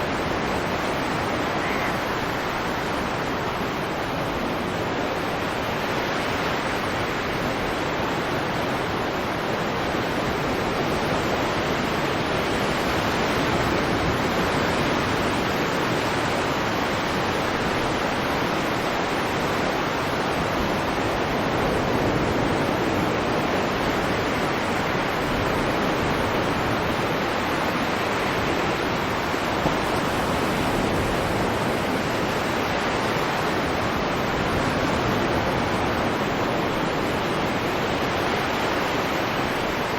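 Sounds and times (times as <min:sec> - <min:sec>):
heavy surf: 0:00.0 - 0:39.9
wind: 0:00.0 - 0:39.9.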